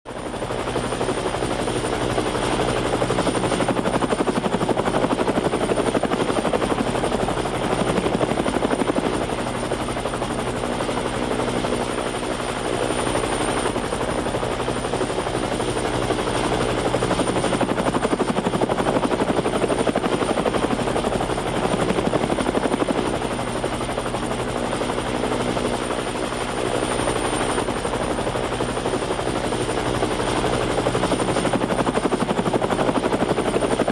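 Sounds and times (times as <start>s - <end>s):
helicopter rotor beat: 0.1s - 33.9s.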